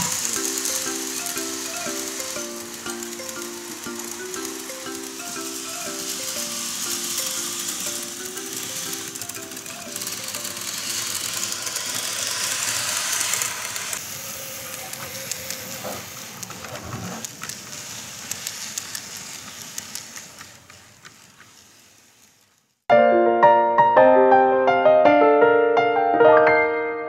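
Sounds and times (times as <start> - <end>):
model train running on track: 0.0 - 22.8.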